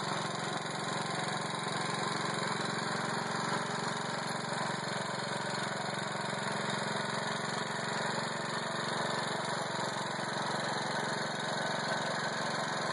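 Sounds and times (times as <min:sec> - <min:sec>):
small engine idling: 0:00.0 - 0:12.9.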